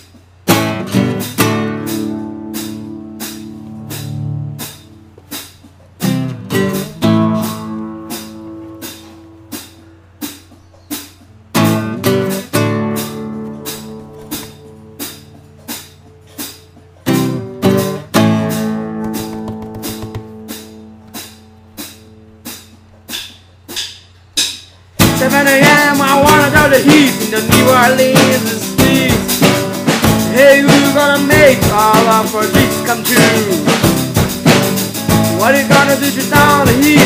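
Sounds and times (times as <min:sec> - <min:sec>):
guitar strumming and picking: 0:00.1 - 0:10.6, 0:11.4 - 0:23.0, 0:25.0 - 0:37.0.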